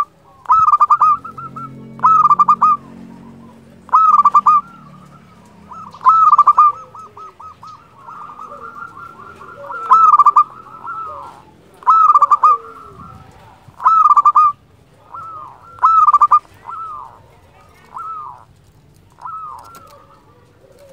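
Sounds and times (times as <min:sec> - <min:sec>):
dove cooing: 0:00.0 - 0:20.9.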